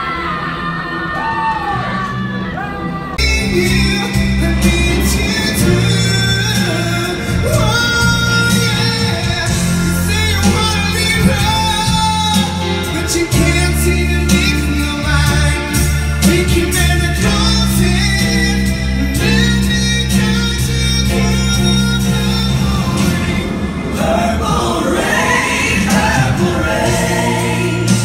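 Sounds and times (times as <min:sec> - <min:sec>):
amplified backing music with bass: 0:03.1 - 0:24.2, 0:25.1 - 0:28.0
man singing into microphone: 0:03.2 - 0:28.0.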